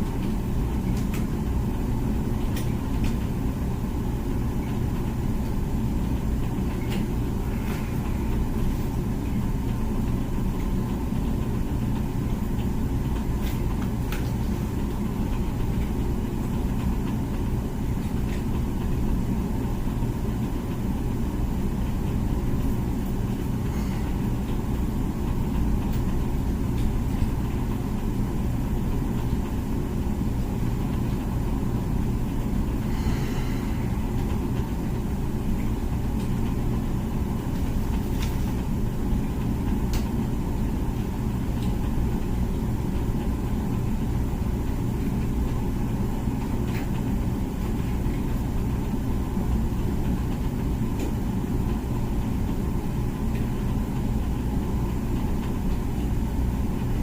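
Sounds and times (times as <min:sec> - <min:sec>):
dishwasher running: 0:00.0 - 0:57.0.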